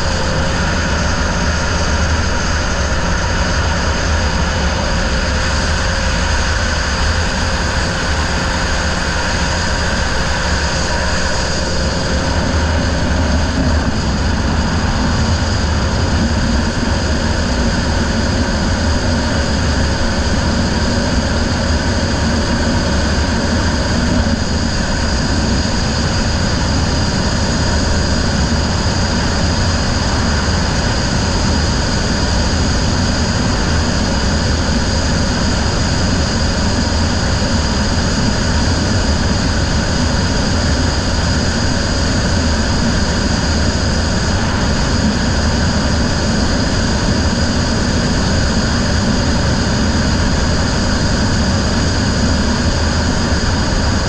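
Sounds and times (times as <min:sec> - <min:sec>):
outboard motor droning: 0:00.0 - 0:54.0.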